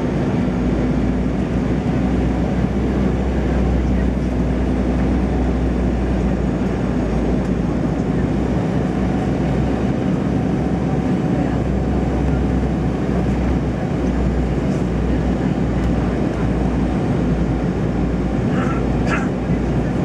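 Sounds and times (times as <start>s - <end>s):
airliner cabin drone: 0.0s - 20.0s.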